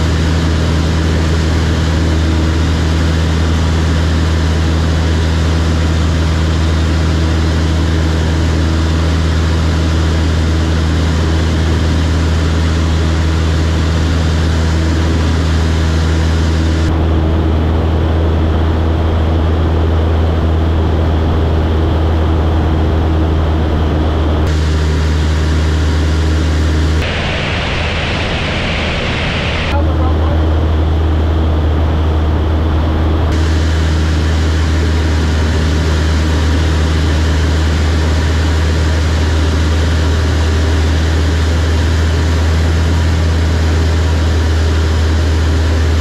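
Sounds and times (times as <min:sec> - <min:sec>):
propeller aircraft engine droning: 0:00.0 - 0:46.0.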